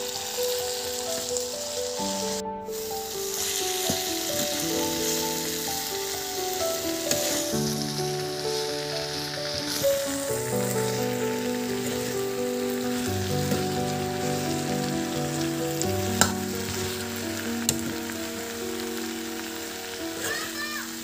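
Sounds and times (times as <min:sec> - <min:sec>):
soft background music: 0:00.0 - 0:21.0
vegetables sizzling in a wok: 0:00.0 - 0:21.0.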